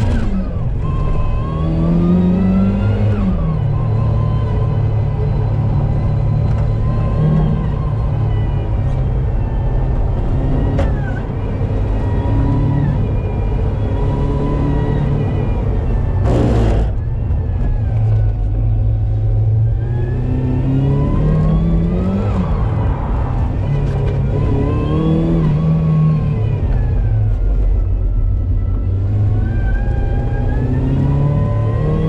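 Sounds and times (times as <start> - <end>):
car engine accelerating: 0.0 - 32.0
road and tyre noise: 0.0 - 32.0.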